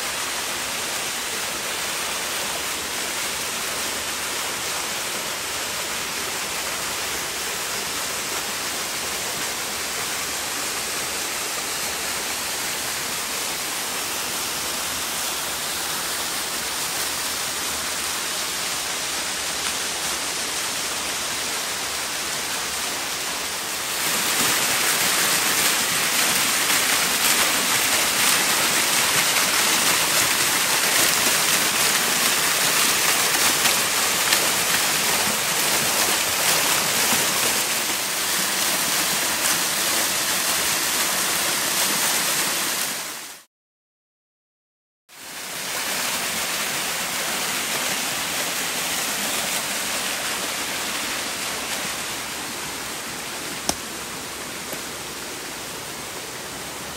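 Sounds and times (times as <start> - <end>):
waterfall splashing: 5.4 - 43.4, 45.3 - 56.9.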